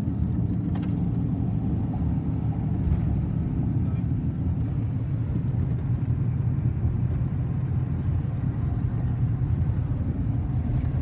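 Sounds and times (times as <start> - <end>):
car engine low rumble: 0.0 - 11.0
tyres on road: 0.0 - 11.0.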